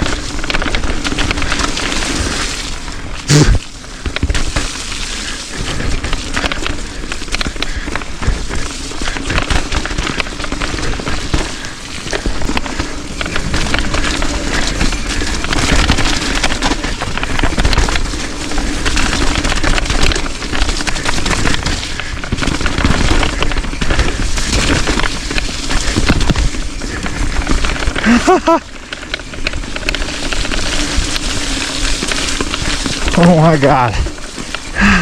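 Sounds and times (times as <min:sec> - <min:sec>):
crackling rattle and knocks: 0:00.0 - 0:35.0.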